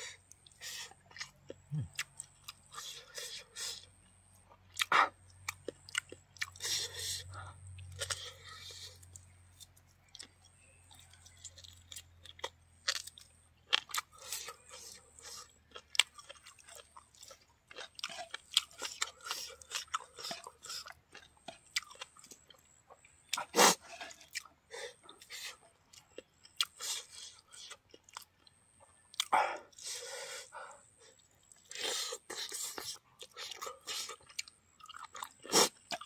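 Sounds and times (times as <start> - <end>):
person chewing food: 0.0 - 36.0
crunches while chewing: 0.1 - 36.0.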